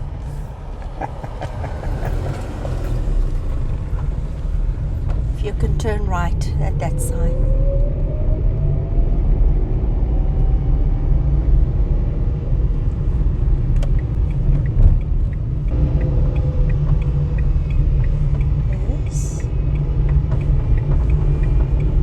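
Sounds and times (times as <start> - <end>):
car interior road and engine rumble: 0.0 - 22.0.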